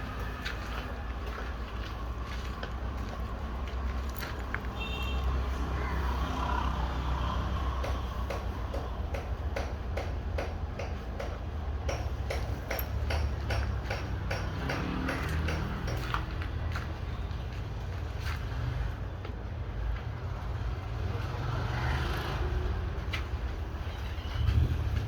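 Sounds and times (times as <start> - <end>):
low street rumble: 0.0 - 25.0.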